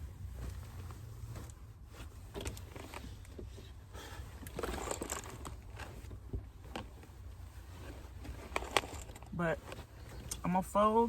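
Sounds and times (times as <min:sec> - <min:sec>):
blankets rustling: 0:00.0 - 0:11.0.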